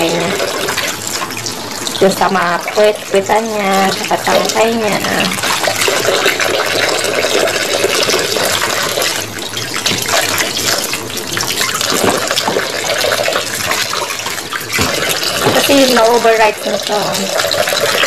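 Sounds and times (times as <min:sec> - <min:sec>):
tap water running into sink: 0:00.0 - 0:18.0
water splashing: 0:00.0 - 0:18.0.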